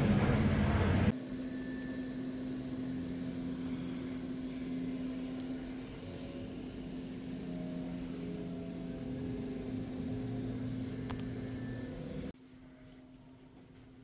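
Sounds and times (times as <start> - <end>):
air conditioning hum: 0.0 - 14.0.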